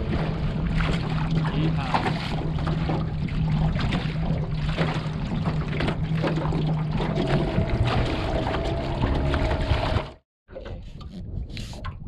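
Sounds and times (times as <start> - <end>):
low hum: 0.0 - 11.2
water slapping against boat hull: 0.0 - 12.0.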